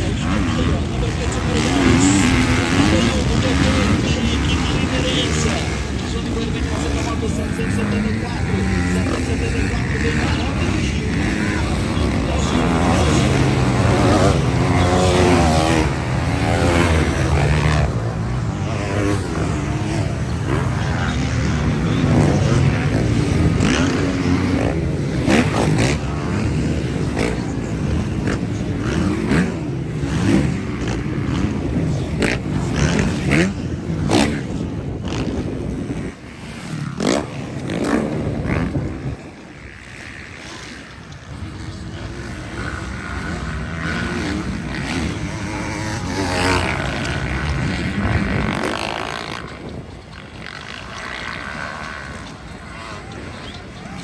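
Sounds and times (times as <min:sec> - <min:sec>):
motocross bikes revving: 0:00.0 - 0:54.0.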